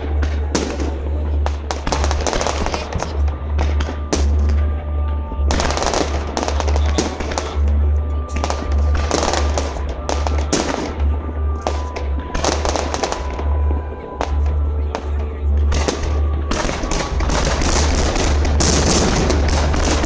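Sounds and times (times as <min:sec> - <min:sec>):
deep low rumble: 0:00.0 - 0:20.0
fireworks bangs and crackling: 0:00.0 - 0:20.0.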